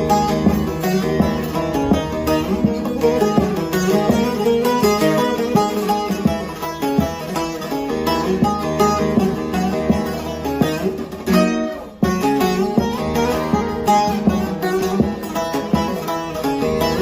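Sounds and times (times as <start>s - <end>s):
long-necked lute plucked melody: 0.0s - 17.0s.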